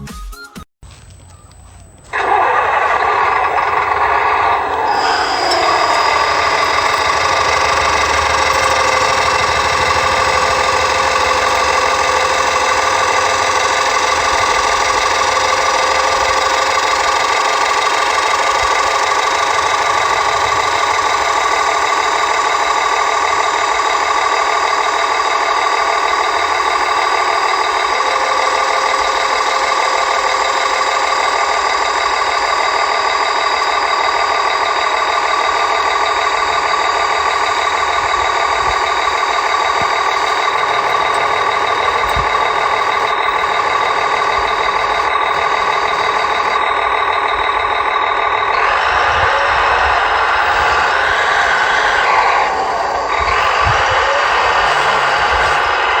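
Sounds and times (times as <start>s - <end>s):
toy engine sound effect: 1.3s - 56.0s.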